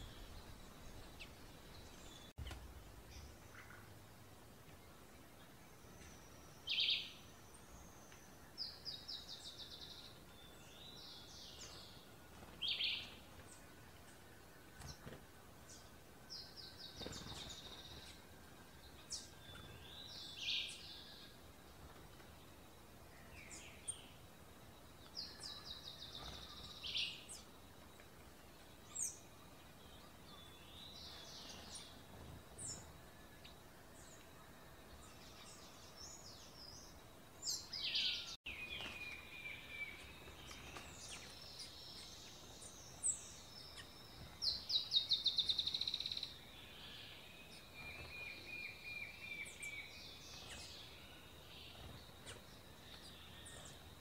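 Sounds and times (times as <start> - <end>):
faint outdoor background noise: 0.0 - 54.0
songbirds chattering: 0.0 - 54.0.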